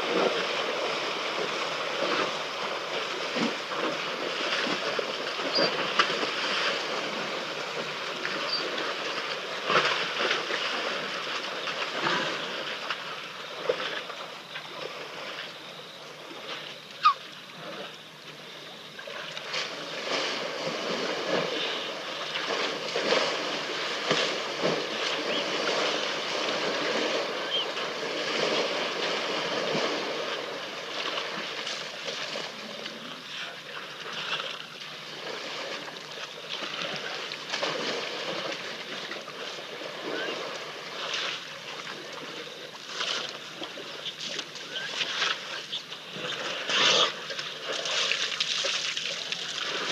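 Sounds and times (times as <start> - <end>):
elephants splashing in mud: 0.0 - 16.6, 19.0 - 49.9.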